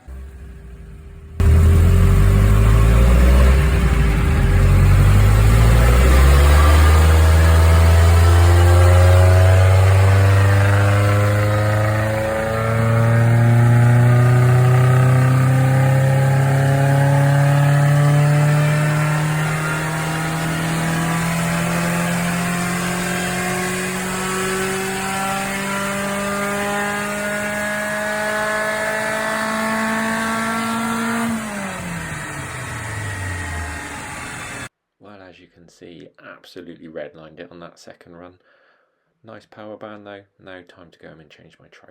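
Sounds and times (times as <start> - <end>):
car engine revving at full throttle: 0.0 - 34.7.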